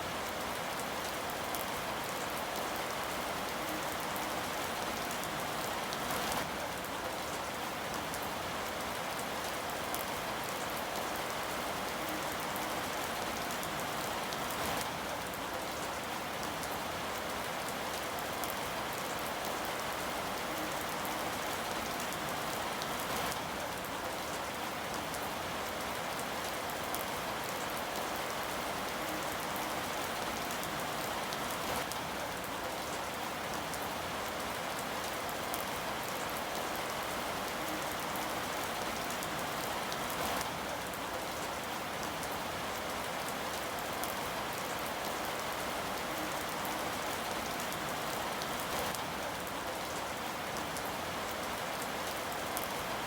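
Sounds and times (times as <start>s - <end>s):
rain spatters: 0.0s - 53.0s
steady rain falling: 0.0s - 53.0s.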